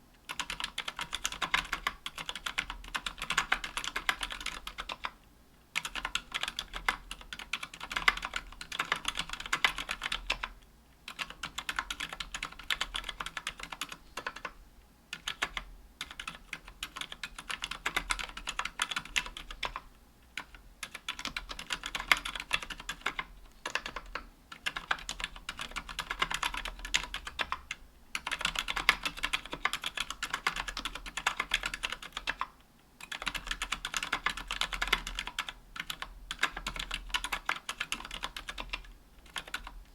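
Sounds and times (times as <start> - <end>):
soft keyboard typing clicks: 0.2 - 5.2, 5.8 - 39.9.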